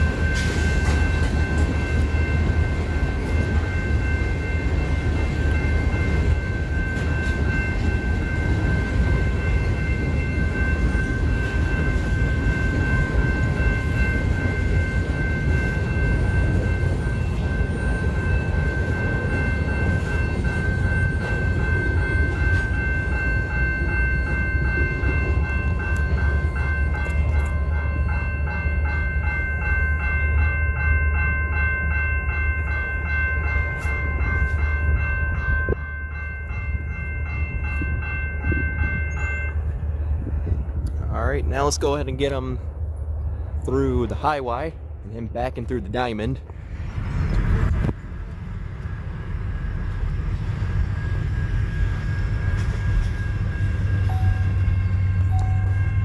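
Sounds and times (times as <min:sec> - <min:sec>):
high ringing tones: 0:00.0 - 0:42.4, 0:48.2 - 0:56.0
railroad crossing bell dinging: 0:00.0 - 0:46.5, 0:47.6 - 0:56.0
train wheels rumbling on rail: 0:00.0 - 0:56.0.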